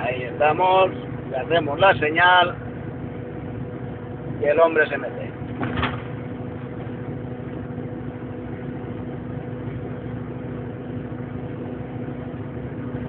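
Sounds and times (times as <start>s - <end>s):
truck engine drone in cab: 0.0s - 13.0s.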